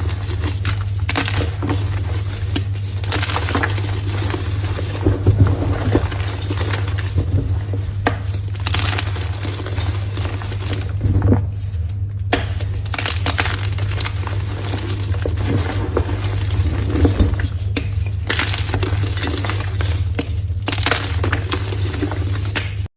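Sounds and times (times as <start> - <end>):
chalk crunching and crackling: 0.0 - 22.9
steady low hum: 0.0 - 22.9.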